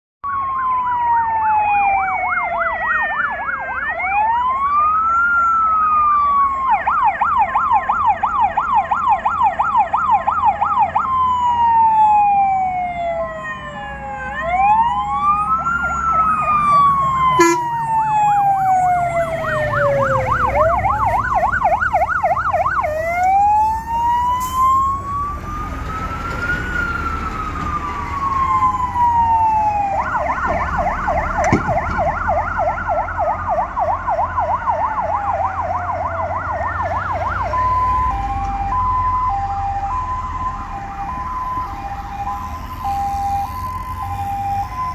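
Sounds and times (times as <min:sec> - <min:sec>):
fire engine sirens wailing and yelping: 0:00.2 - 0:44.9
diesel truck engines rumbling: 0:00.4 - 0:44.9.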